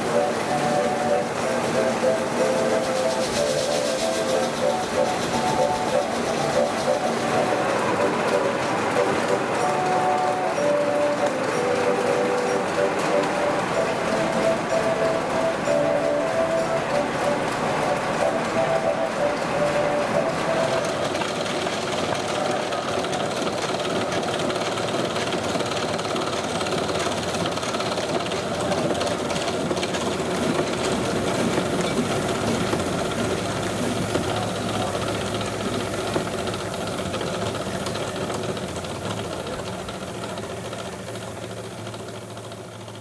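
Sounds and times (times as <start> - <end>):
steam engine rapid mechanical beat: 0.0 - 43.0.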